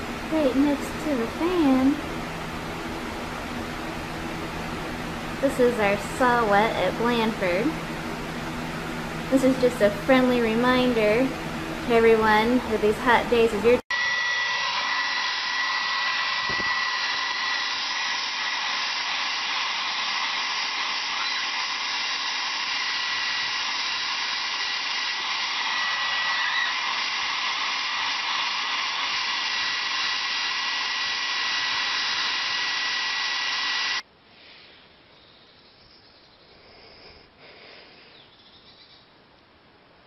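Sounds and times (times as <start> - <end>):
hair dryer blowing: 0.0 - 34.1.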